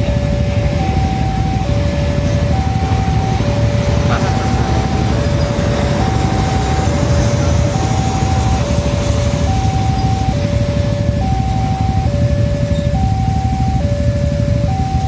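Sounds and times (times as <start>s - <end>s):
idling motorbikes and traffic: 0.0s - 15.0s
level crossing two-tone alarm: 0.0s - 15.0s.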